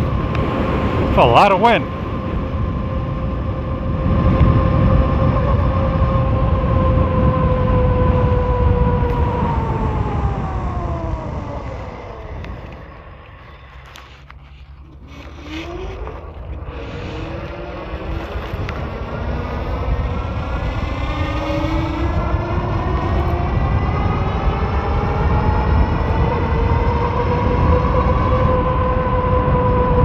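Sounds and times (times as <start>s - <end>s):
electric motor whine: 0.0s - 30.0s
wind buffeting microphone: 0.0s - 30.0s.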